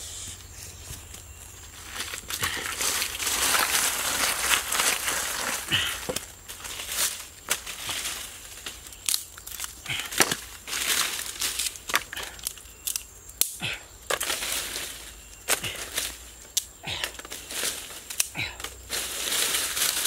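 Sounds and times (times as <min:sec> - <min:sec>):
dry leaves crunching: 0:00.4 - 0:13.0, 0:14.0 - 0:20.0
twigs snapping: 0:01.0 - 0:20.0.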